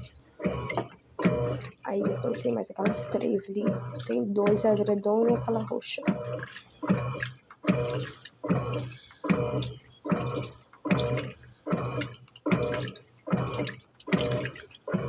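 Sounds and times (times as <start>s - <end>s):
washing machine water sloshing: 0.0s - 15.0s.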